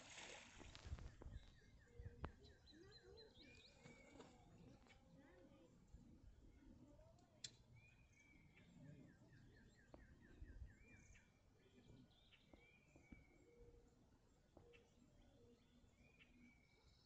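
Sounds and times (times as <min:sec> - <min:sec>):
faint birdsong: 0:00.1 - 0:17.0.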